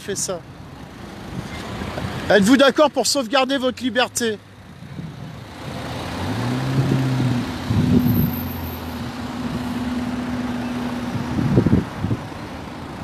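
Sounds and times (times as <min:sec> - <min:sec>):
cars driving slowly past: 0:00.0 - 0:13.0
tyre and road noise: 0:00.0 - 0:13.0.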